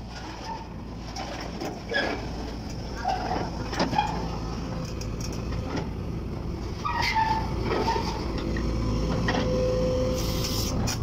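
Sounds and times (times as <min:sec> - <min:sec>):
heavy equipment engine running: 0:00.0 - 0:11.0.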